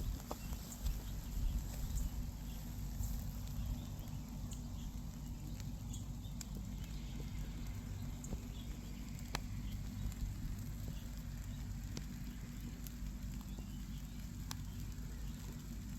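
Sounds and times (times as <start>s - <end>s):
faint clicks and crackles: 0.0s - 15.9s
wind rumble on microphone: 0.0s - 15.9s.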